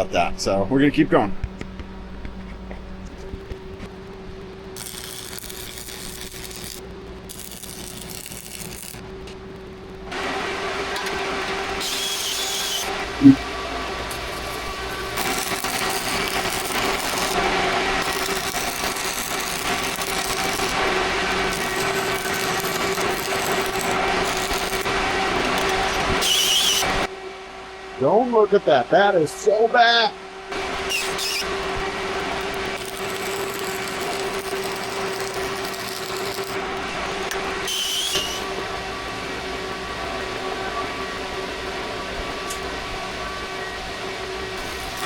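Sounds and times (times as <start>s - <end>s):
welding arc crackling and buzzing: 0.0s - 27.1s, 30.5s - 40.4s, 41.4s - 45.0s
steady hum: 0.0s - 45.0s.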